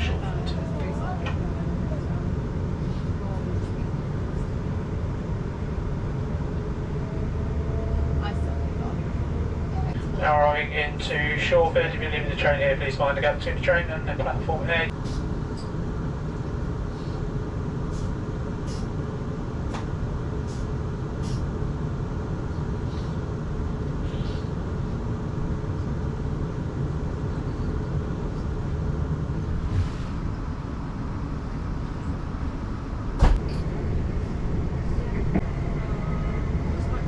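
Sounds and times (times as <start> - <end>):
train rumble on rails: 0.0 - 37.0.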